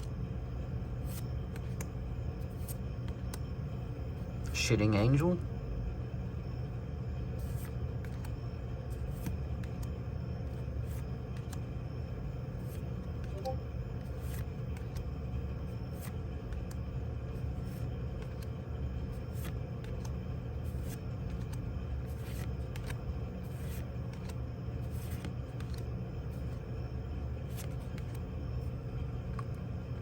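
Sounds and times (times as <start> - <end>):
trading cards clicking and rustling: 0.0 - 3.6, 7.3 - 11.8, 12.5 - 29.7.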